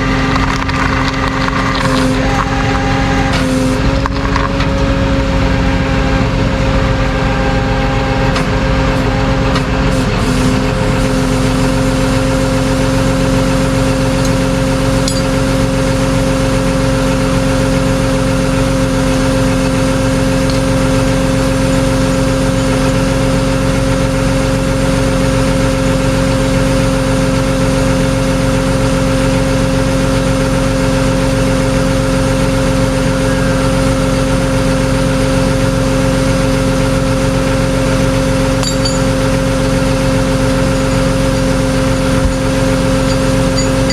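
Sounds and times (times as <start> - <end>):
fixed whining tone: 0.0 - 43.9
vehicle engine humming: 0.0 - 43.9.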